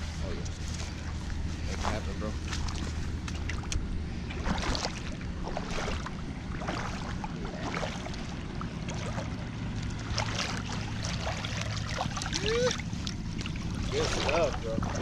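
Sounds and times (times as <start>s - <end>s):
wind rumble on microphone: 0.0s - 15.0s
fish splashing in water: 2.4s - 15.0s.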